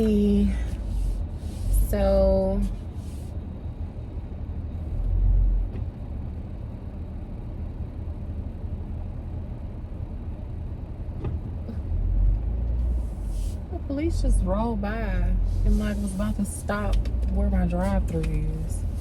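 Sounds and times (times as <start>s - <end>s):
car rumble heard from inside: 0.0s - 19.0s.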